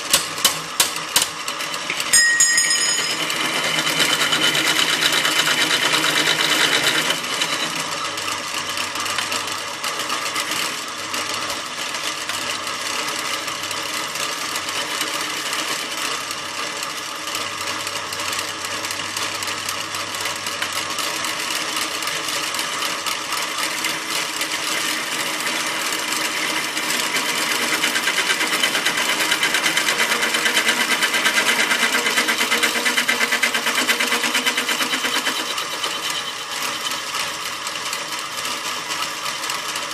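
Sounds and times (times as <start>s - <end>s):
drill press whirring: 0.0s - 39.9s.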